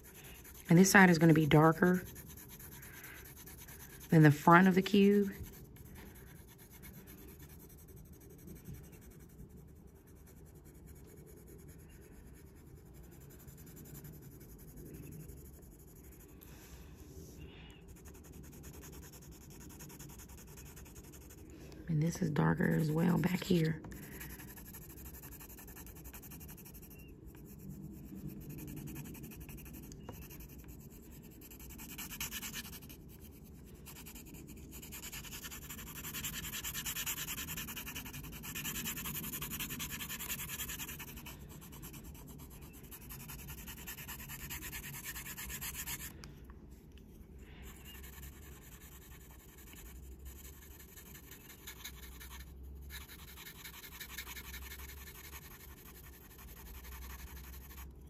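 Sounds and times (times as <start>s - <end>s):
pencil shading on paper: 0.0s - 16.7s, 17.8s - 21.5s, 22.1s - 46.1s, 47.7s - 57.8s.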